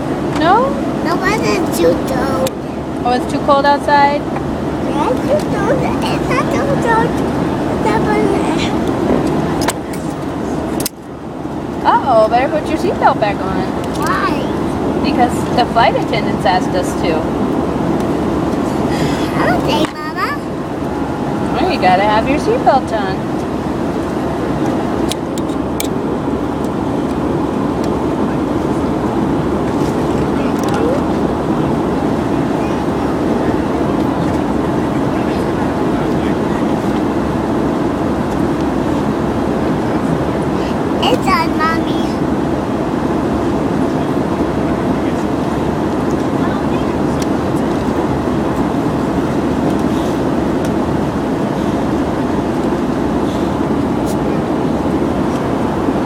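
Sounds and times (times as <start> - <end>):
airliner cabin engine hum: 0.0 - 56.0.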